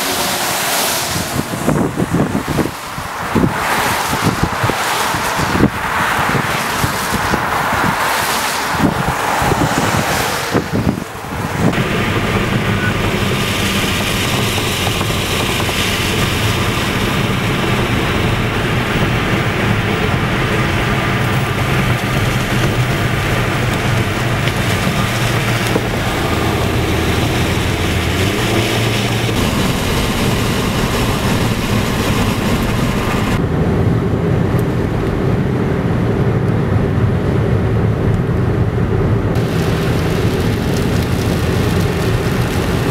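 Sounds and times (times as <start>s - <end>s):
car road noise and engine hum: 0.0s - 42.9s
wind gusts on microphone: 0.0s - 42.9s.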